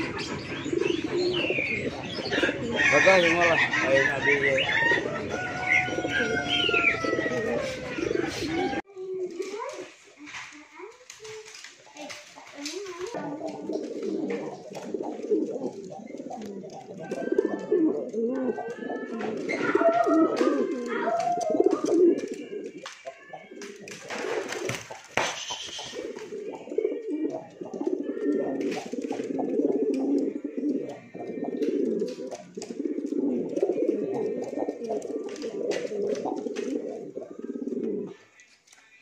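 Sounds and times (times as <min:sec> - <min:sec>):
pigeons cooing: 0:00.0 - 0:09.4, 0:11.1 - 0:38.4.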